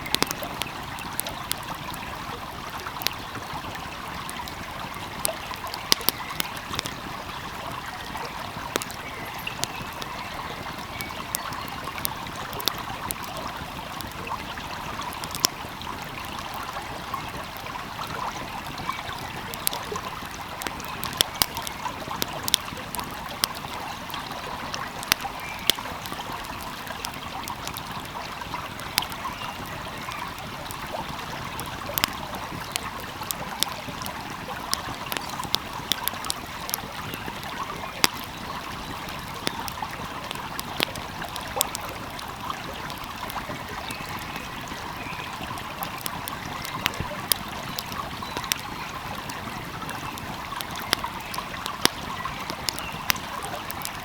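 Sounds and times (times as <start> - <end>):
stream flowing: 0.0 - 54.0
wood fire crackling and popping: 0.0 - 54.0.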